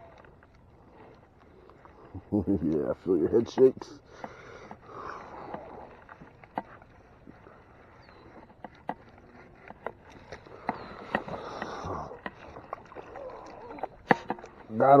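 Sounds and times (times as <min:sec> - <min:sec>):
light water noise: 0:00.0 - 0:15.0.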